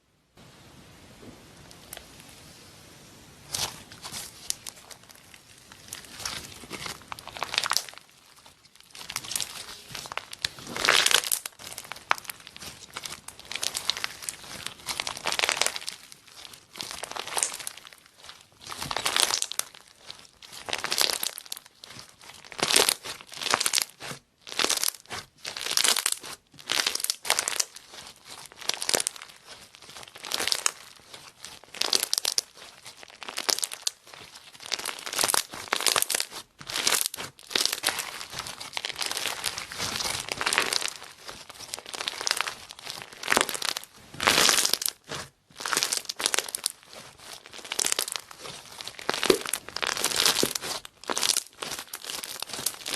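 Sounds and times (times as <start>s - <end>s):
slime squished by hand: 3.4s - 52.9s.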